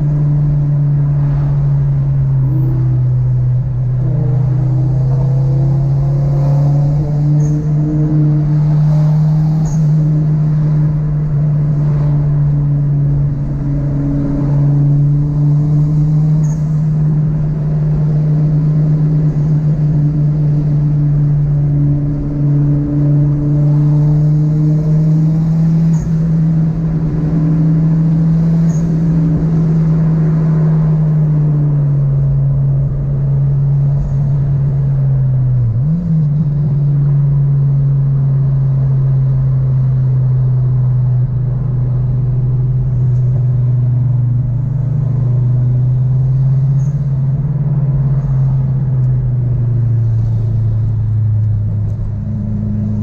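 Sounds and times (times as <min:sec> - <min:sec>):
car engine droning: 0:00.0 - 0:53.0
tyre and road rumble: 0:00.0 - 0:53.0.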